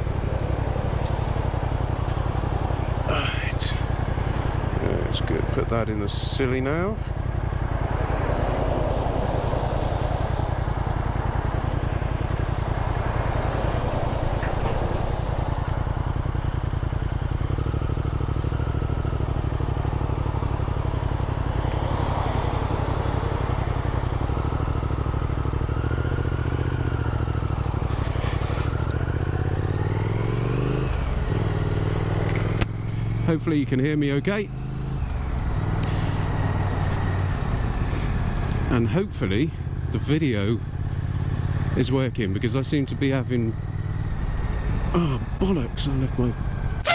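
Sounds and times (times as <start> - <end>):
motorcycle engine running: 0.0 - 41.9, 46.2 - 46.9.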